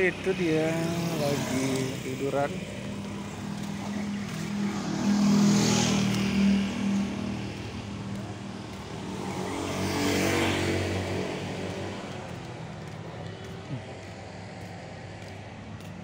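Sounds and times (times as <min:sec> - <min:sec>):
motor vehicles driving past: 0:00.0 - 0:16.0.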